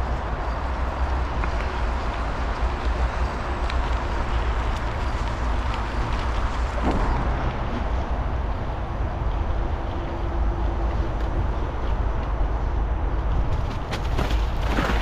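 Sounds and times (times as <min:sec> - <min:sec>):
bicycle rolling noise: 0:00.0 - 0:15.0
wind rumble on microphone: 0:00.0 - 0:15.0.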